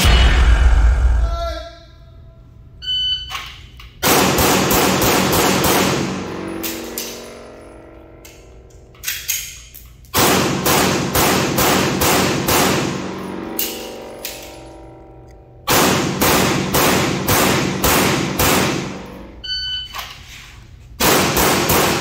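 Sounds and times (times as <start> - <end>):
pistol shots echoing in a hall: 2.1 - 20.0, 20.9 - 22.0.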